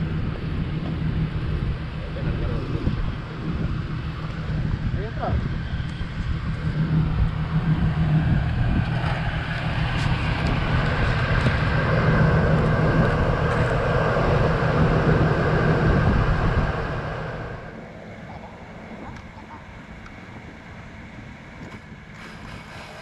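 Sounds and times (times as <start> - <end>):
winch mechanical drone: 0.0 - 23.0.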